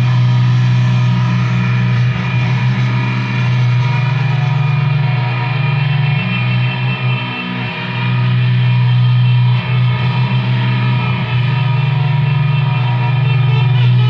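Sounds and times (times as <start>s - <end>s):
distorted guitar droning: 0.0s - 14.0s.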